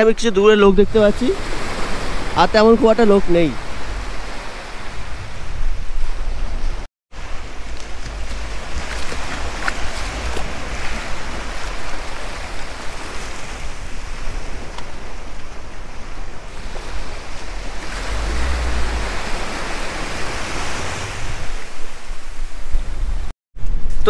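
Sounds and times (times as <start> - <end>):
wind rumbling on microphone: 0.6 - 24.0
surf washing over sand: 1.0 - 23.3.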